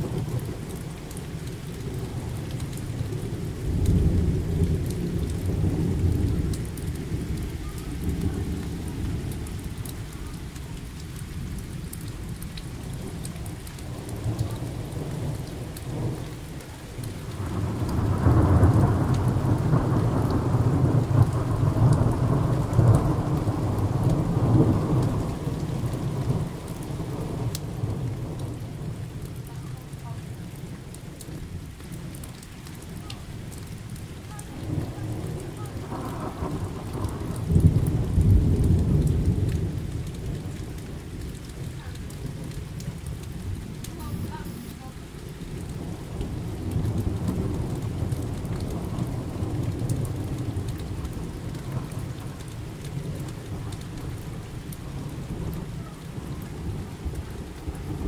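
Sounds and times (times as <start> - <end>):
thunder rumbling: 0.0 - 29.4, 34.5 - 58.0
steady rain: 0.0 - 58.0.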